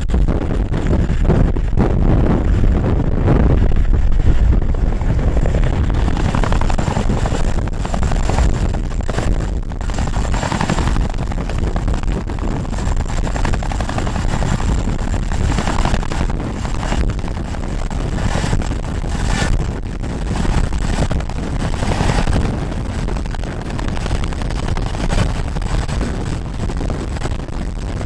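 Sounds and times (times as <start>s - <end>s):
helicopter rotor chop: 0.0s - 28.0s.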